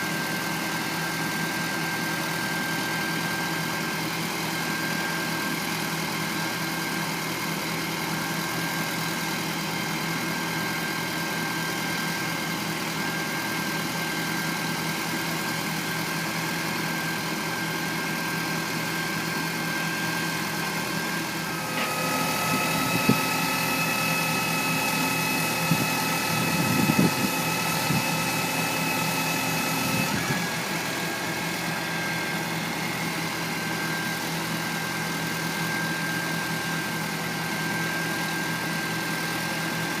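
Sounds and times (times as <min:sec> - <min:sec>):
truck engine idling with whine: 0:00.0 - 0:40.0.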